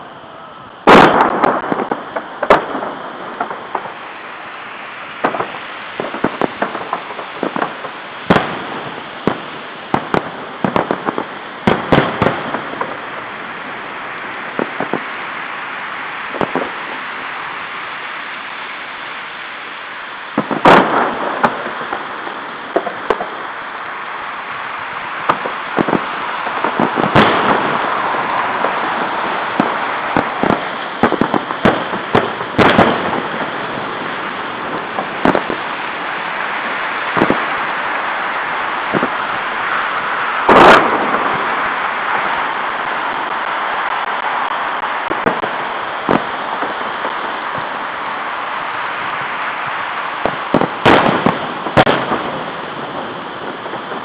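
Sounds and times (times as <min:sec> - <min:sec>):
steady hiss: 0:00.0 - 0:54.0
firework shells bursting: 0:00.8 - 0:54.0.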